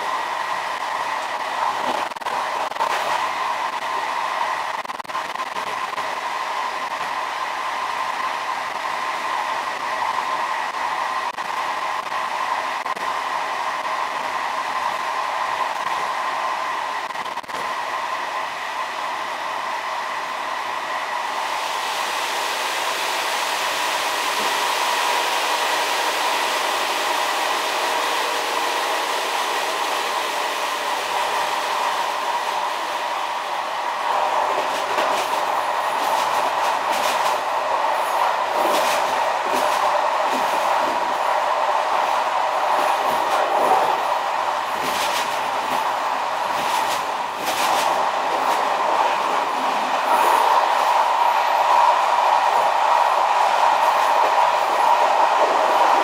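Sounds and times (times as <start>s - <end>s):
train rushing along track: 0.0s - 56.0s.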